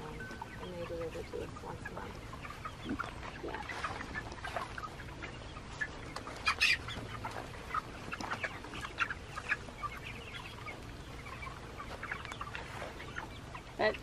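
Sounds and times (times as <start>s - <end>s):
chickens clucking and peeping: 0.0s - 14.0s.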